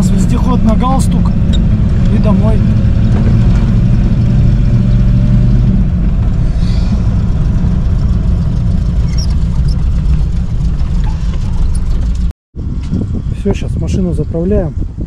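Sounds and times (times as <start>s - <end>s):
off-road vehicle engine rumble: 0.0s - 15.0s.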